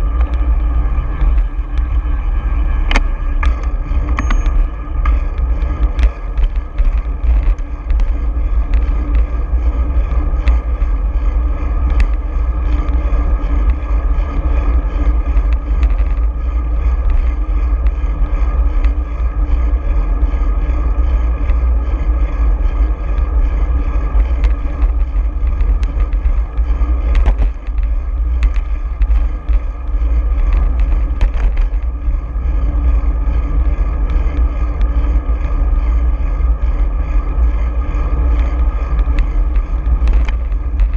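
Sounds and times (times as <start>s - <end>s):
road noise: 0.0s - 40.9s
wind buffeting camera: 0.0s - 40.9s.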